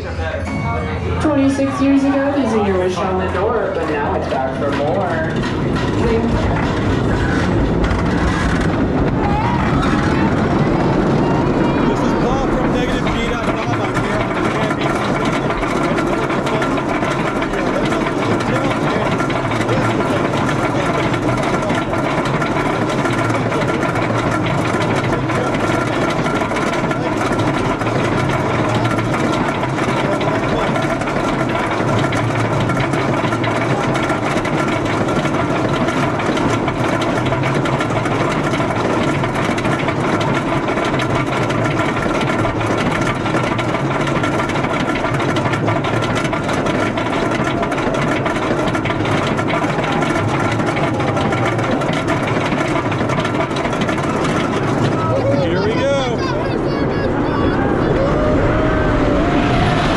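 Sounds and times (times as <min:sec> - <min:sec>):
roller coaster lift mechanism drone: 0:00.0 - 0:59.9.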